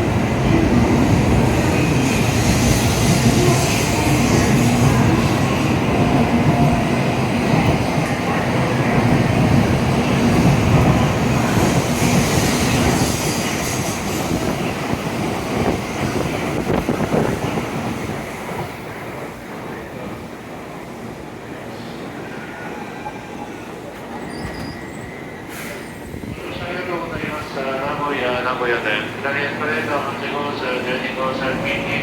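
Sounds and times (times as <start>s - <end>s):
train running and wheel noise: 0.0s - 32.0s.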